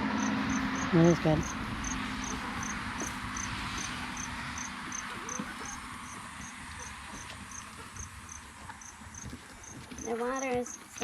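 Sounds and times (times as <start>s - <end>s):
cricket chirping: 0.0s - 10.8s.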